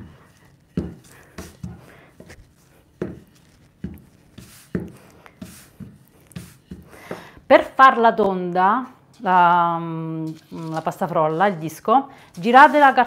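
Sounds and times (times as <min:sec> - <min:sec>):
rolling pin rolling pastry: 0:00.0 - 0:07.1, 0:09.2 - 0:13.0.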